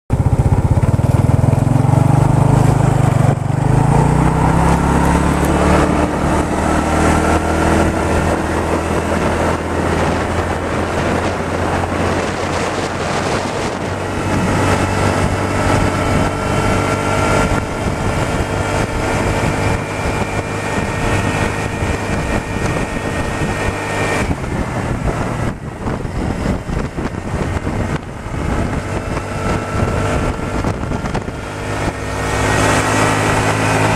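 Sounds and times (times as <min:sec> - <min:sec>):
motorcycle engine accelerating: 0:00.1 - 0:33.9.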